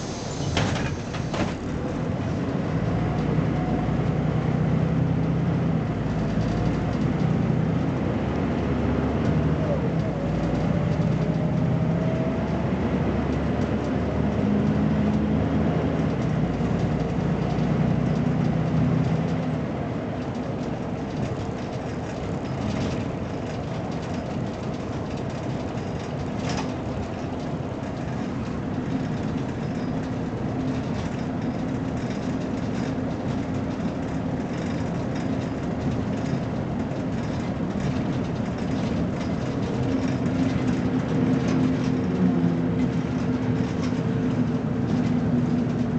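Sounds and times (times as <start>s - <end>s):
bus engine running under load: 0.0s - 45.9s.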